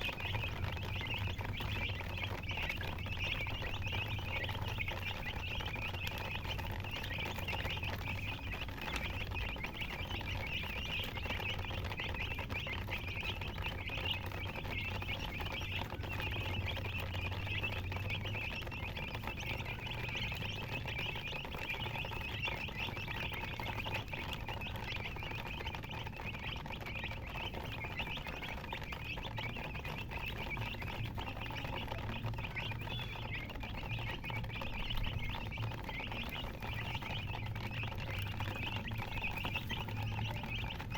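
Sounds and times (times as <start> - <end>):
baby chicks peeping: 0.0 - 40.9.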